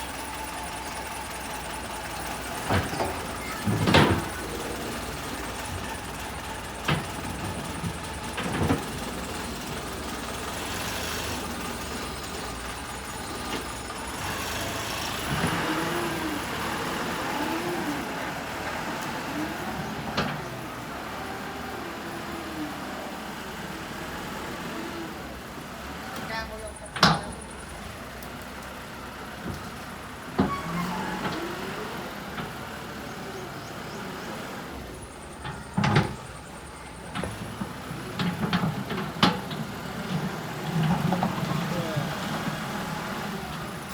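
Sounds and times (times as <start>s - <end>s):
wheel loader engine running: 0.0s - 43.9s.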